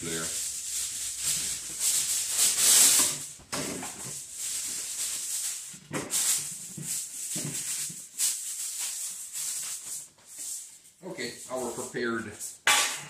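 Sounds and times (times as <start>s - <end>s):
aluminum foil crinkling: 0.0s - 10.8s.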